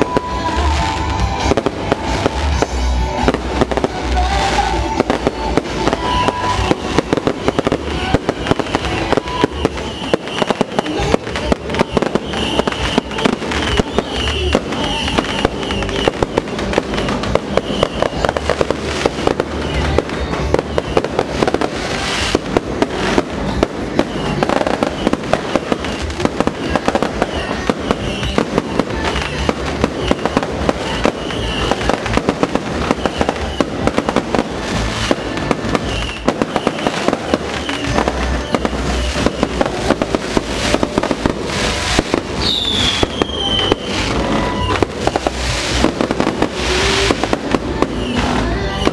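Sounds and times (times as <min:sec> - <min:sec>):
firework falling whistle: 0:00.0 - 0:48.9
fireworks crackling and banging: 0:00.0 - 0:48.9.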